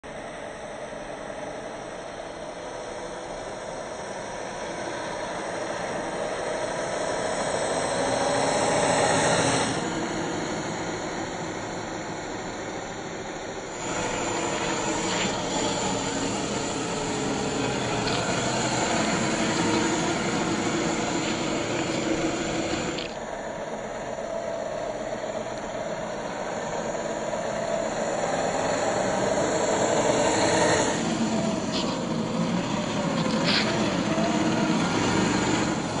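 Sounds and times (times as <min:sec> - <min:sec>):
electric motor and gear hum: 0:00.1 - 0:36.0.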